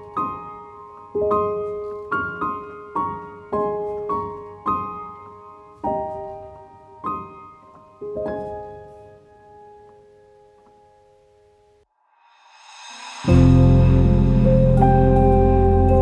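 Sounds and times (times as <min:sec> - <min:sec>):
gentle solo piano music: 0:00.0 - 0:11.2, 0:13.3 - 0:16.0.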